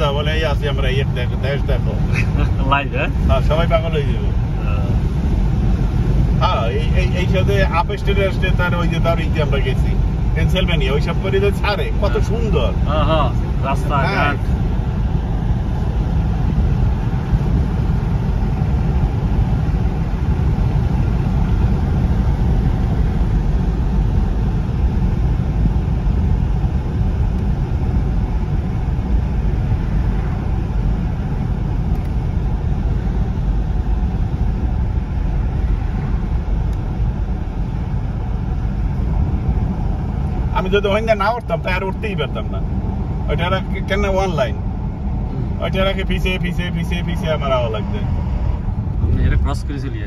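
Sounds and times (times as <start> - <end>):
car driving heard from cabin: 0.0 - 50.0.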